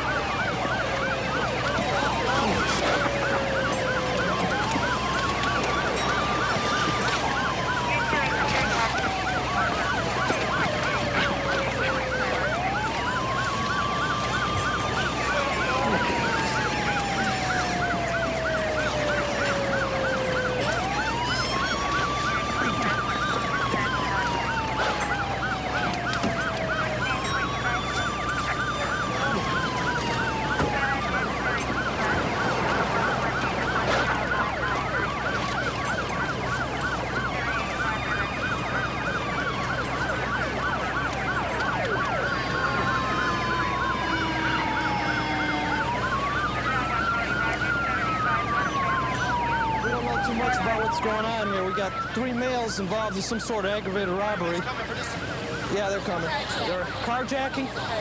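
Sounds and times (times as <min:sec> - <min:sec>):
police siren yelping: 0:00.0 - 0:58.0
police sirens wailing: 0:00.0 - 0:58.0.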